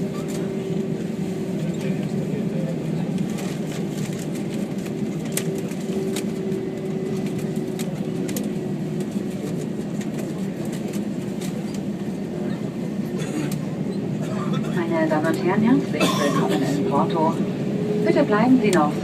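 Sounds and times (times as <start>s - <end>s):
aircraft cabin hum: 0.0s - 19.0s.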